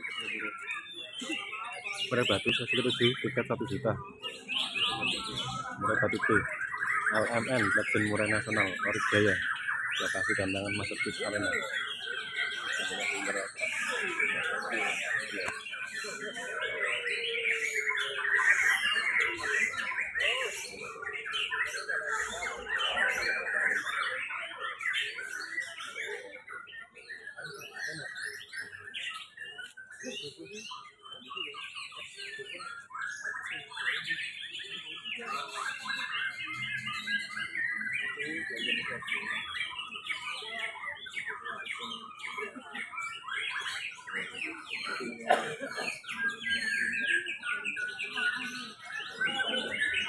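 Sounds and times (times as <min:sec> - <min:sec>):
chorus of songbirds whistling: 0:00.0 - 0:50.0.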